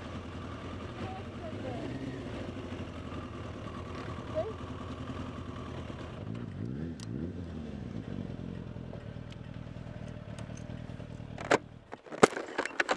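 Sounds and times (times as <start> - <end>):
motorcycle engine idling and revving: 0.0 - 12.9.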